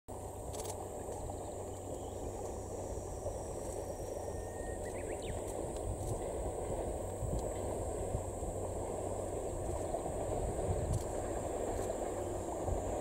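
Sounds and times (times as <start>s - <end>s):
insects trilling: 0.1s - 13.0s.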